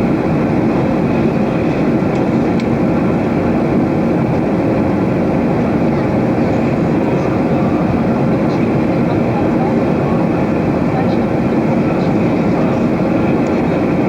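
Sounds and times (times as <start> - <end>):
jet engine and airflow noise: 0.0 - 14.0.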